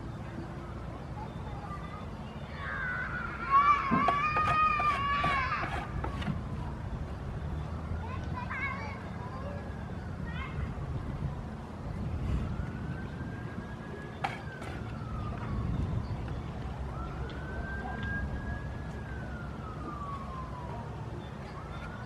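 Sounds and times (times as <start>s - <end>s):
distant siren wailing: 0.1s - 10.7s, 11.9s - 22.0s.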